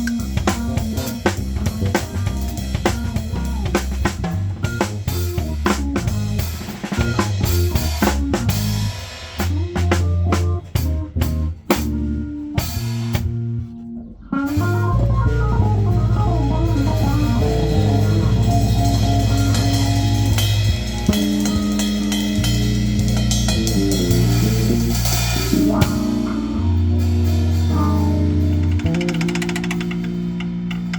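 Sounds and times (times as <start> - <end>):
bass guitar line: 0.0 - 30.9
funk band jamming: 0.0 - 30.9.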